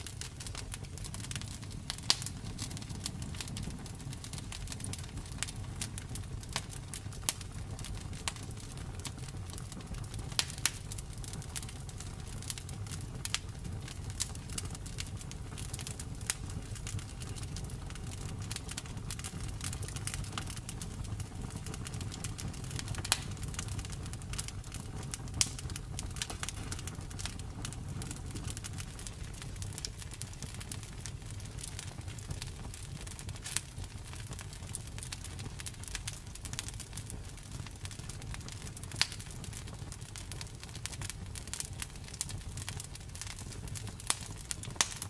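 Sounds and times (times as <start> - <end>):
low rumble of flames: 0.0 - 45.0
wood fire crackling and popping: 0.0 - 45.0.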